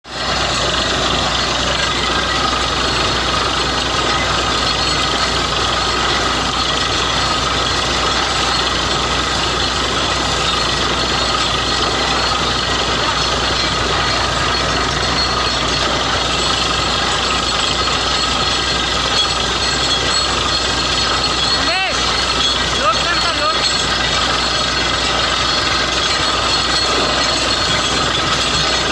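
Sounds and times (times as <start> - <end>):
drilling rig running: 0.0 - 28.9.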